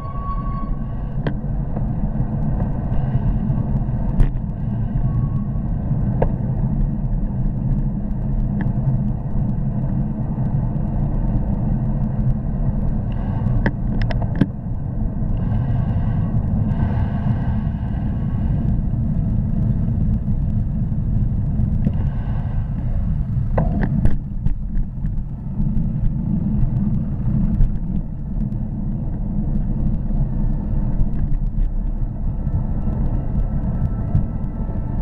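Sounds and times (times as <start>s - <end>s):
road traffic: 0.0s - 35.0s
wind rumble on microphone: 0.0s - 35.0s.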